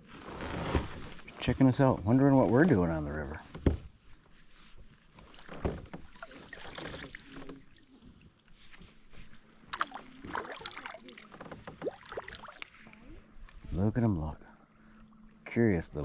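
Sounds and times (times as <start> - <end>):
water lapping against kayak: 0.0 - 15.6.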